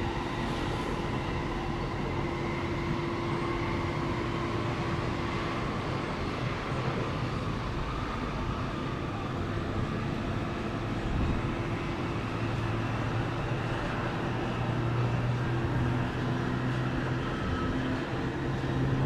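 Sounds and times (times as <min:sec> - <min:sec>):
rail and road traffic rumble: 0:00.0 - 0:19.0.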